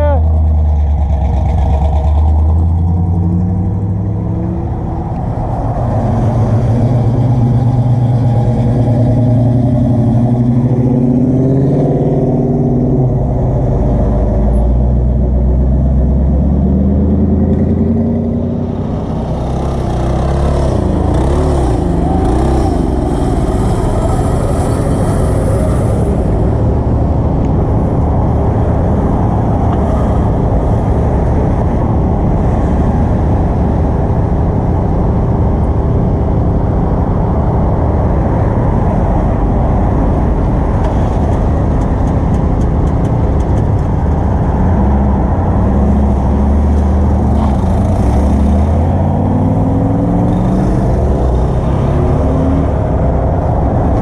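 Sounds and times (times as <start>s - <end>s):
car engines driving past: 0.0s - 54.0s.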